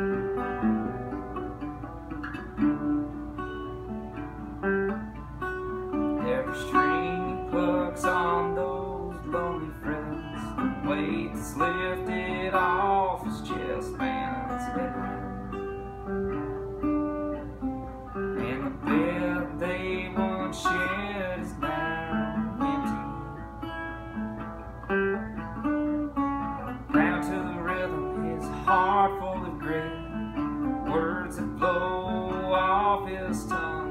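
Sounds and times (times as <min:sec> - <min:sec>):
resonator guitar playing: 0:00.0 - 0:33.9.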